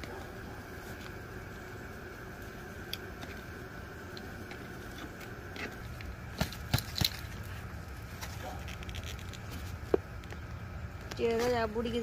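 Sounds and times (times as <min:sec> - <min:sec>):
rustling and scraping in soil: 0:00.0 - 0:03.6, 0:04.2 - 0:12.0
faint steady hum: 0:00.0 - 0:12.0.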